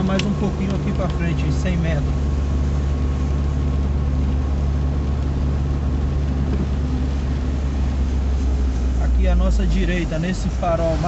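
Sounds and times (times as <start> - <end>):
engine and road rumble: 0.0 - 11.0
wet road hiss: 0.0 - 11.0.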